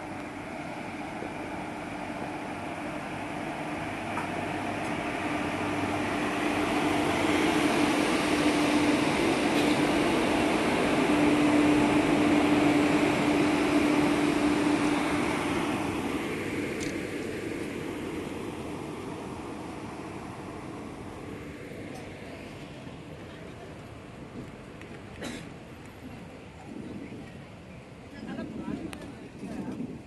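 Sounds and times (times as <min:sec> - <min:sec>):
electric locomotive rolling past: 0:00.0 - 0:30.0.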